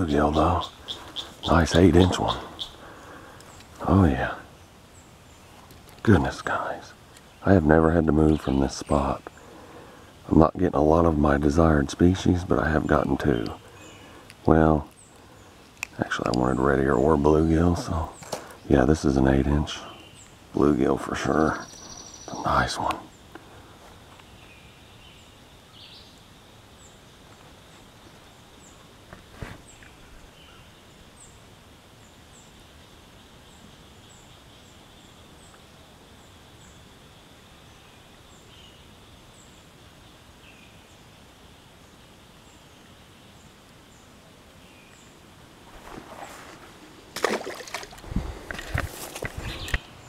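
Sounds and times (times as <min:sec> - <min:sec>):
steady hiss: 0:00.0 - 0:47.2.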